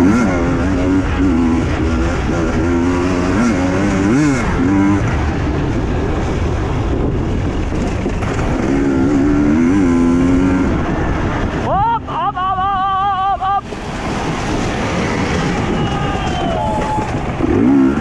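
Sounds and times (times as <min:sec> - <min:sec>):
rush of off-road riding noise: 0:00.0 - 0:18.0.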